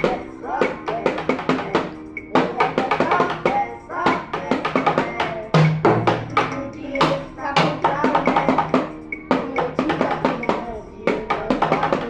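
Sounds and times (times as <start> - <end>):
drum kit playing: 0.0 - 12.0
recorded song: 0.0 - 12.0.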